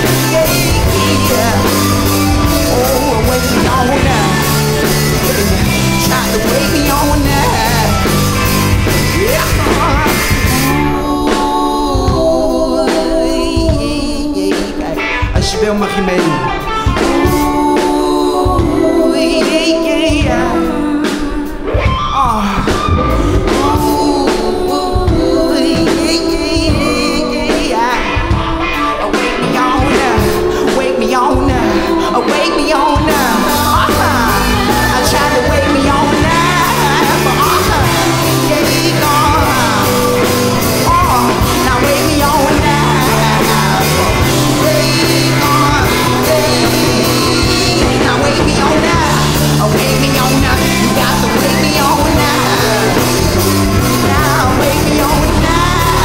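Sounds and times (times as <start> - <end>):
bass guitar: 0.0 - 56.0
drum kit: 0.0 - 56.0
electric guitar: 0.0 - 56.0
keyboard: 0.0 - 56.0
person singing: 0.0 - 56.0.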